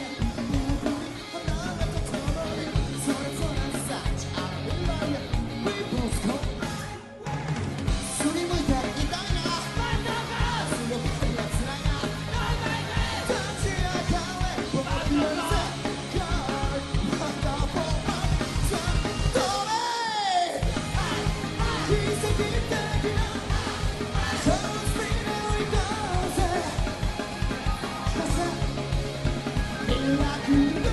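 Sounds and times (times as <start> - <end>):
person singing and shouting: 0.0 - 27.0, 29.8 - 30.9
rock band playing: 0.0 - 30.9.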